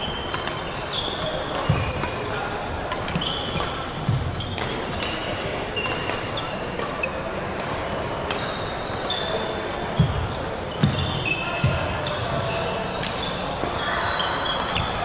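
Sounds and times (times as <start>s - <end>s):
court shoes squeaking: 0.0s - 15.0s.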